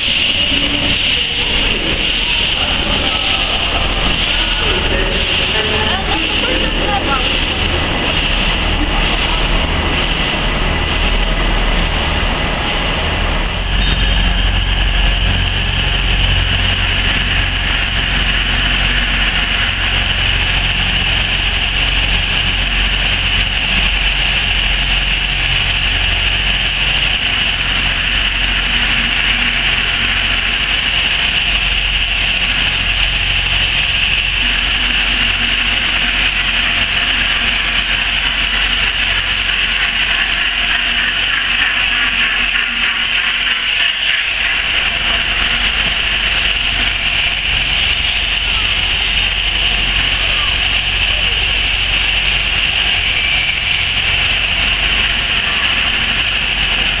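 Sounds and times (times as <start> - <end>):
low rumble: 0.0 - 57.0
steam hissing: 0.0 - 57.0
steam locomotive drifting in: 0.0 - 57.0.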